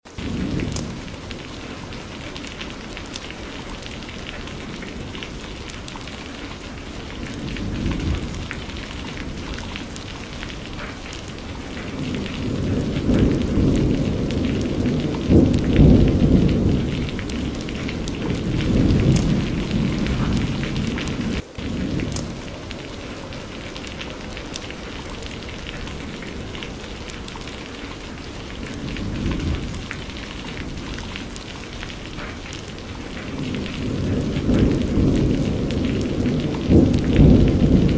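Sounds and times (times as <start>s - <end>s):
steady rain: 0.0s - 37.9s
low rumble of thunder: 0.1s - 37.9s.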